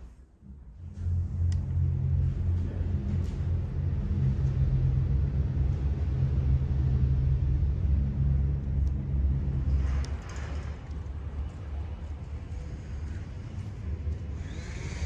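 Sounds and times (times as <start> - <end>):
deep low rumble: 0.4 - 14.7.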